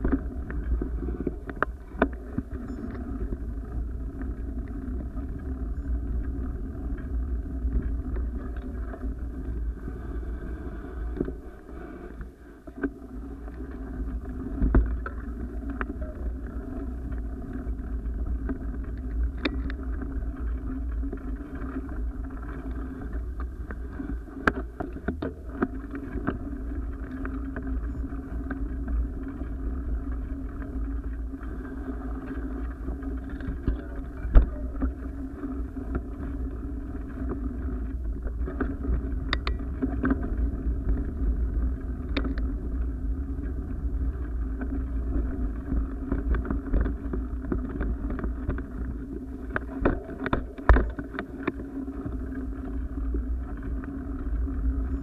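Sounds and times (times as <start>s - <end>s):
wind rumble on camera microphone: 0.0s - 55.0s.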